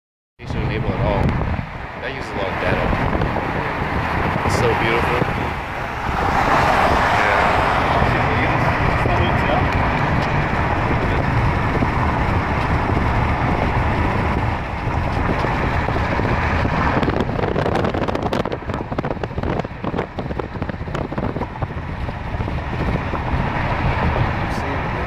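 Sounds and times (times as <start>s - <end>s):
road and wind noise in car: 0.4s - 25.0s
wind buffeting microphone: 0.4s - 25.0s.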